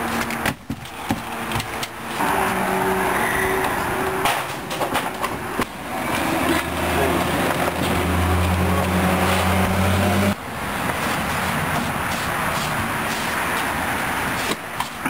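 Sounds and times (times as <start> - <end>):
street noise: 0.0 - 15.0
low engine hum: 1.4 - 14.2.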